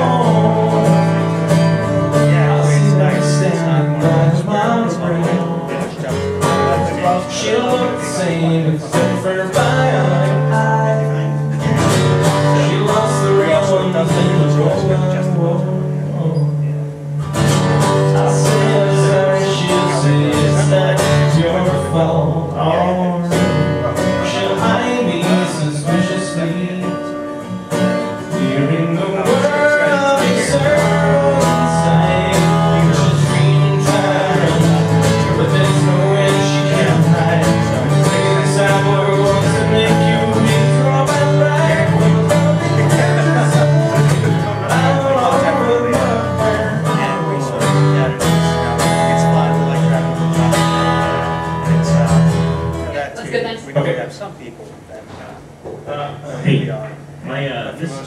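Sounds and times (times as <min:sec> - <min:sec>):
person singing: 0:00.0 - 0:16.8, 0:17.6 - 0:27.4, 0:28.0 - 0:52.2
acoustic guitar strumming: 0:00.0 - 0:54.0, 0:54.6 - 0:57.4.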